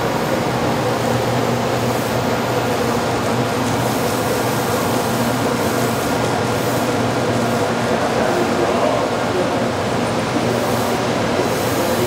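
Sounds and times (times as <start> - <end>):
train hum: 0.0 - 12.0.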